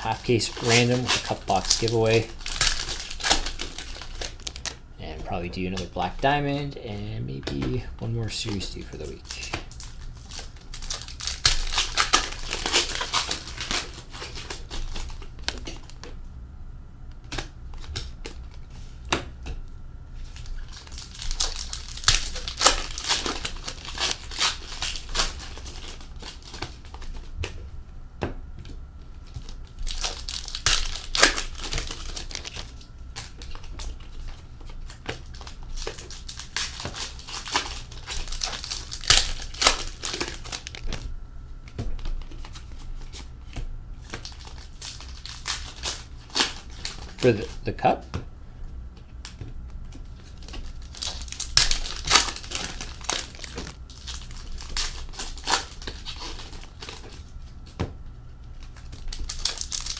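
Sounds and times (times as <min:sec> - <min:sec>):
card wrappers crinkling: 0:00.0 - 0:16.2, 0:20.2 - 0:27.3, 0:29.2 - 0:41.1, 0:42.0 - 0:48.0, 0:49.2 - 0:57.8, 0:58.5 - 0:59.9.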